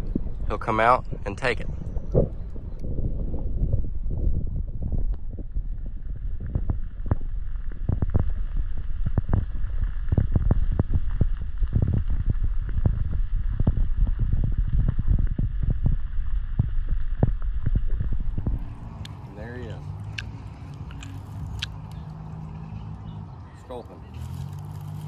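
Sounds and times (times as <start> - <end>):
muffled underwater stream rumble: 0.0 - 23.4.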